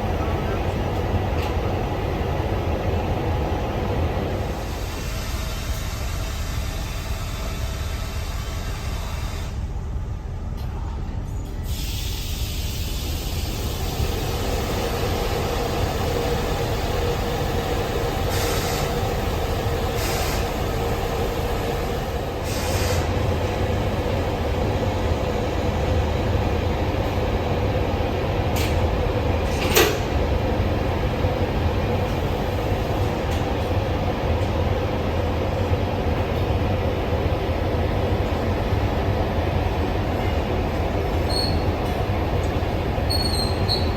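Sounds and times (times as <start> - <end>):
train rumbling over track: 0.0 - 43.9.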